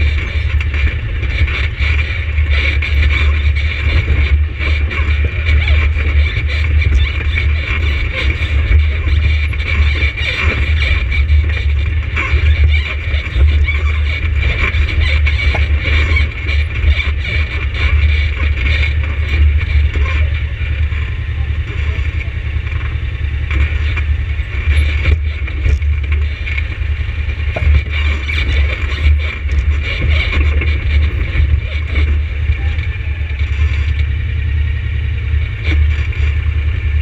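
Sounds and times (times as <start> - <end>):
knocks and rattles: 0.0 - 34.2
atv engine droning: 0.0 - 37.0.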